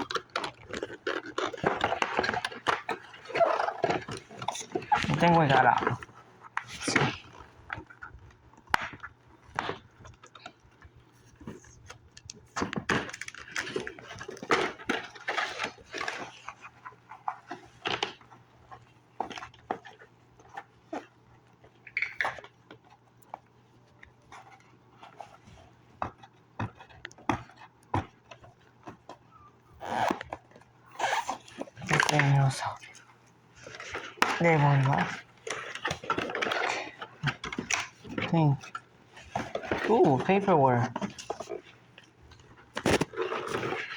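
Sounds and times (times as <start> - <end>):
packaging rustling and clicking: 0.0 - 43.9.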